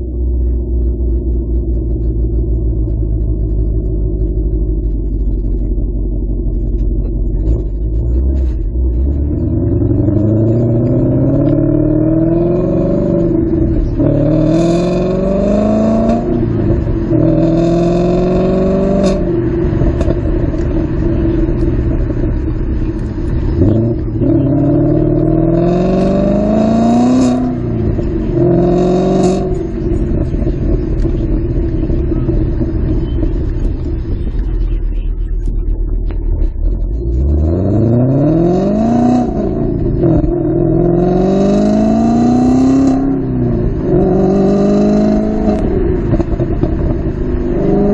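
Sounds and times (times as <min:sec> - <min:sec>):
car engine accelerating hard: 0:00.0 - 0:47.9.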